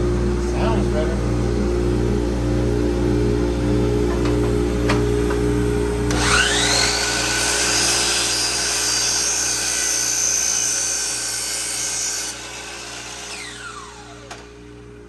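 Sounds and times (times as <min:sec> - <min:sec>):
miter saw motor whine: 0:00.0 - 0:15.0.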